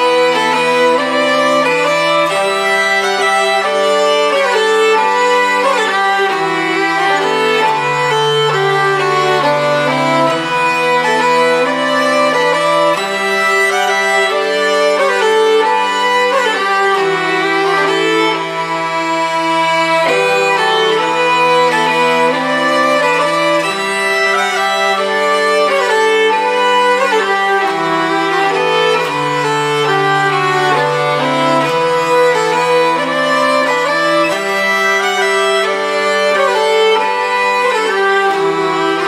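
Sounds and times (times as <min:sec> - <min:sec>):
fiddle melody: 0:00.0 - 0:39.0.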